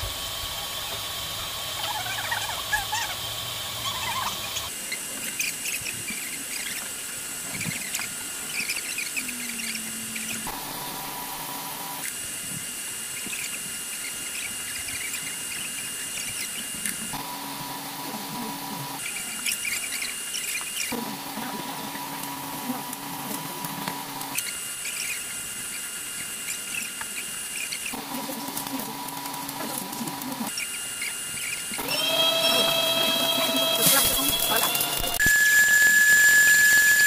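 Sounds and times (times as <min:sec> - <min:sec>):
coffee roaster motor humming: 0:00.0 - 0:37.0.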